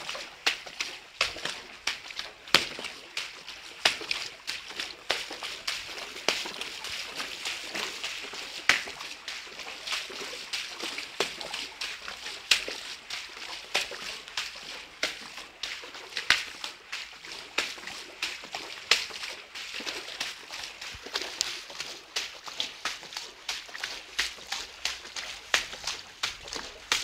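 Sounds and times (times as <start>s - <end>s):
footsteps splashing through water: 0.0s - 27.0s.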